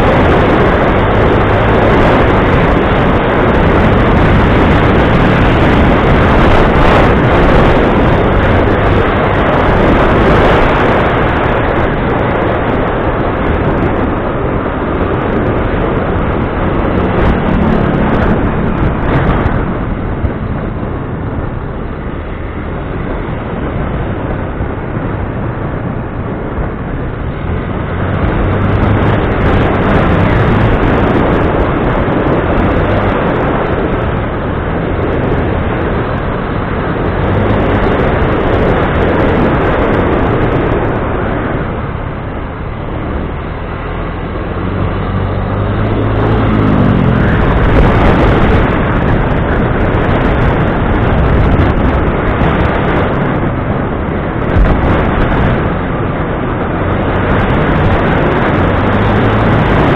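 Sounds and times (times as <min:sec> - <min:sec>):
loud rushing noise: 0:00.0 - 0:59.9
vehicle engine hum: 0:00.0 - 0:59.9.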